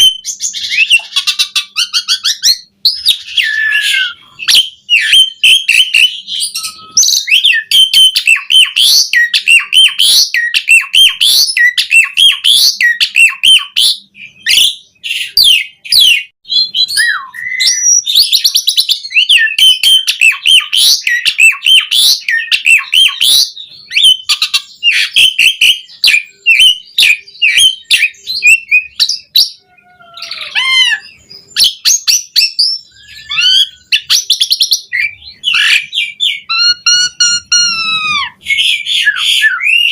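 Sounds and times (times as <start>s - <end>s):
starling singing chirps and whistles: 0.0s - 39.9s.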